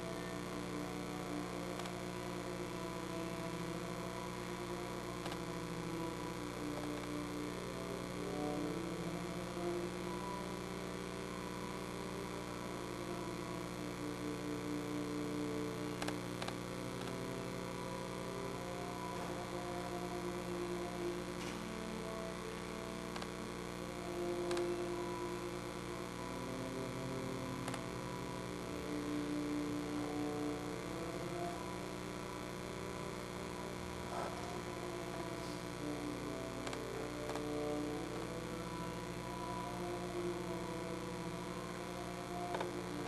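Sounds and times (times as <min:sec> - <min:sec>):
electrical hum: 0:00.0 - 0:43.0.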